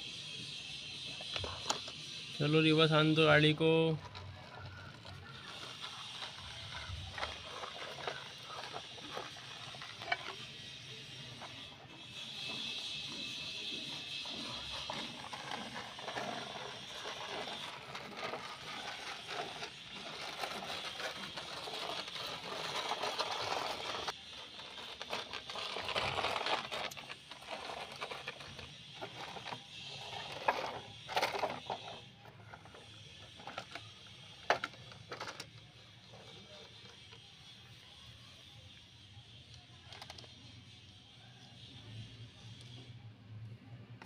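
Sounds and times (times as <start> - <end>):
toy truck wheels scraping on concrete: 0.0 - 44.0.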